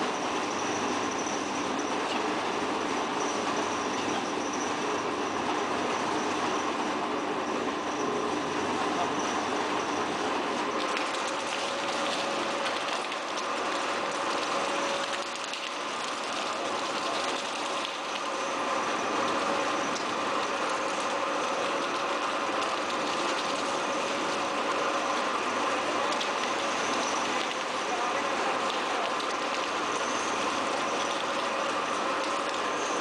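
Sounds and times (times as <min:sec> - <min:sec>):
recycling machinery running: 0:00.0 - 0:33.0.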